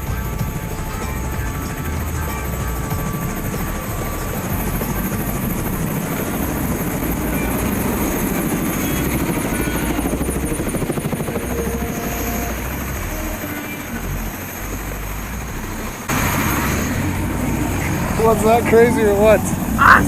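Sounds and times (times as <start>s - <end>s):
helicopter engine and rotor: 0.0s - 20.0s.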